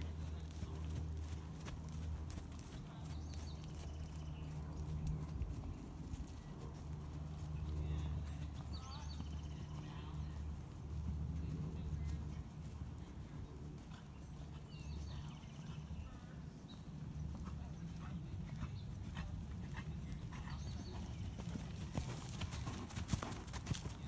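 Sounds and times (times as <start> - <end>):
hoofbeats on sand: 0.0 - 24.0.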